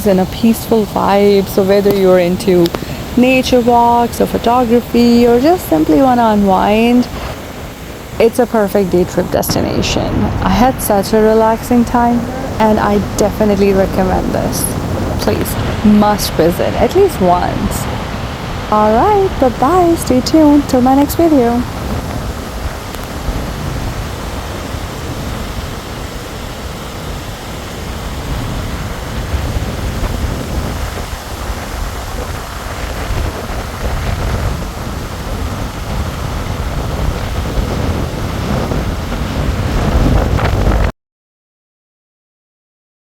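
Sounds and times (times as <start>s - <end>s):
river water roaring: 0.0s - 40.9s
wind buffeting microphone: 0.0s - 40.9s.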